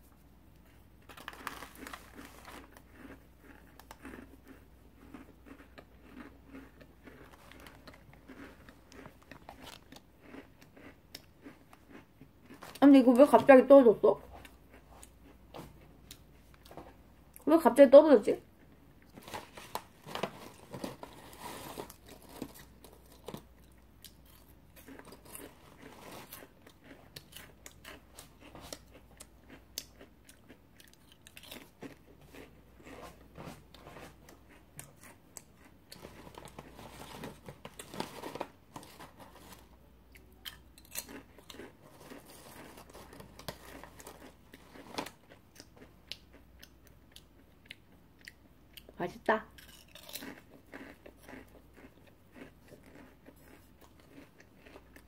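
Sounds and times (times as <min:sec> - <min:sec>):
chewing crunchy snacks: 0:00.6 - 0:13.6, 0:18.4 - 0:55.0.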